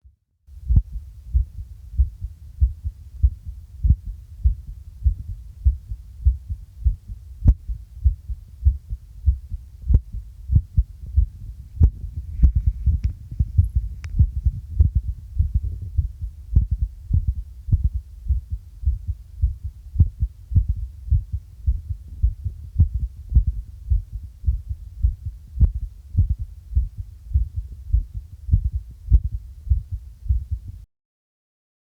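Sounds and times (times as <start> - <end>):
heartbeat thuds: 0.5 - 30.8.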